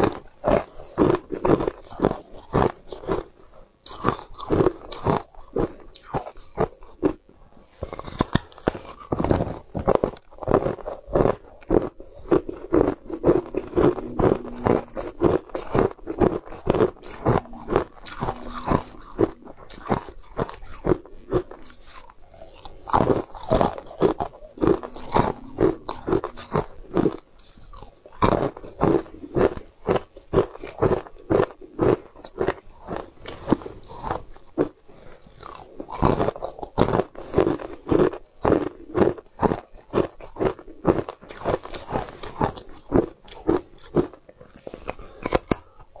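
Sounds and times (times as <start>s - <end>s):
person crunching ice: 0.0s - 46.0s.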